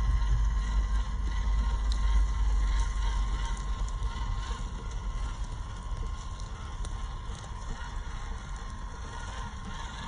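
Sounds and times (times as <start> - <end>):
electric motor whine: 0.0 - 10.0
wood chips crackling under tyres: 0.0 - 10.0.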